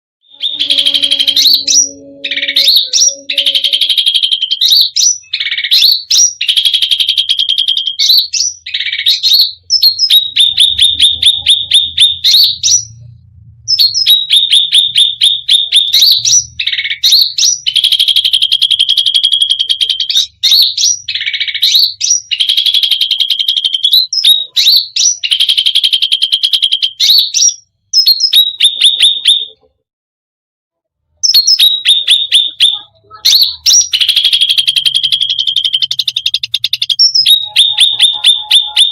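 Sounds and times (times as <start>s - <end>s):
songbird singing rattling song: 0.2s - 13.1s, 13.7s - 29.7s, 31.2s - 38.9s.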